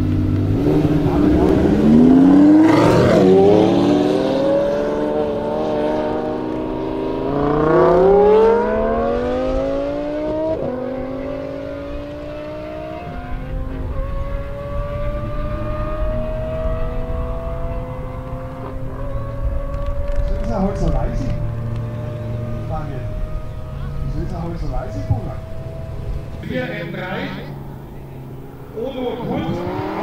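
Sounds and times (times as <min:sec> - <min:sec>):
supercar engines accelerating hard: 0:00.0 - 0:30.0.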